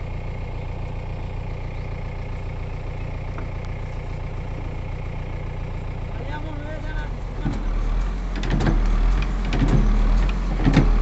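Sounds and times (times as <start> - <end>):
diesel digger engine idling: 0.0 - 11.0.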